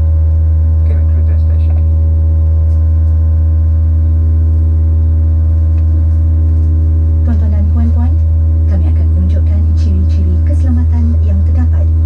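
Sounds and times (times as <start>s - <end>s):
low drone in aircraft cabin: 0.0s - 12.0s.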